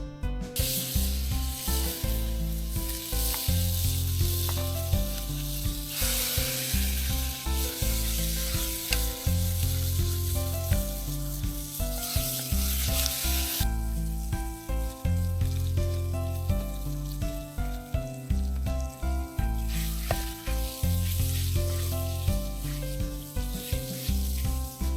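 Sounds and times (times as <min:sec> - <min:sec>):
food sizzling in a pan: 0:00.6 - 0:24.9.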